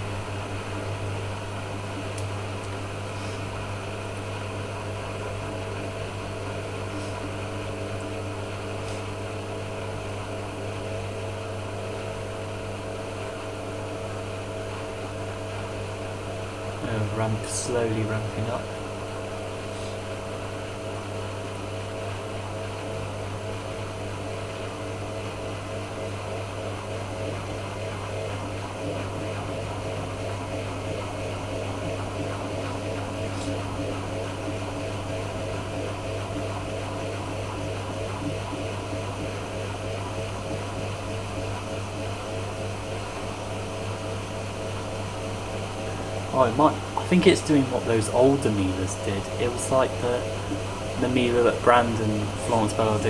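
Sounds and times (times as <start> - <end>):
washing machine spinning: 0.0 - 53.0.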